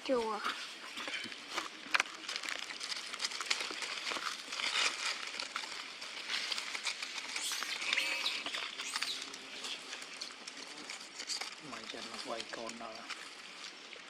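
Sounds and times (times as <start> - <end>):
crinkling and rustling: 0.0 - 14.0.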